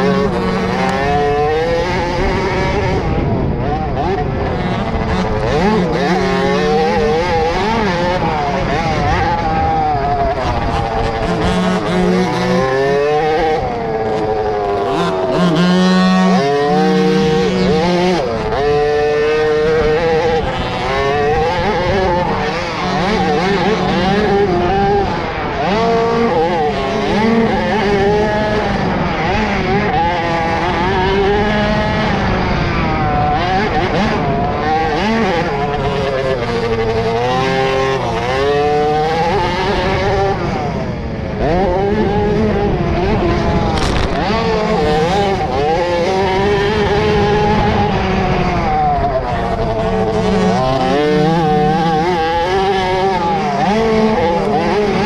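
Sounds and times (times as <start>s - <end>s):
two-stroke dirt bike engines revving: 0.0s - 55.0s.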